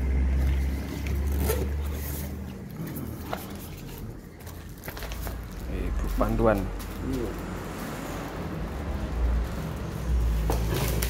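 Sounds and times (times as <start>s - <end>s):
plastic packaging crinkling: 0.5s - 11.0s.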